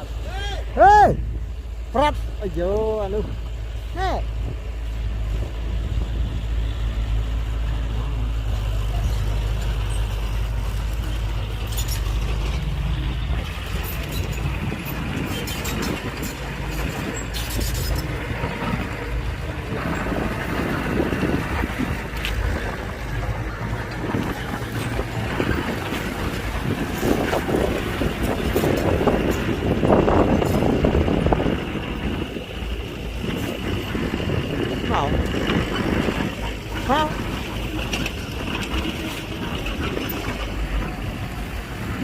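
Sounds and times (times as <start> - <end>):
diesel engine of heavy machinery: 0.0 - 42.0.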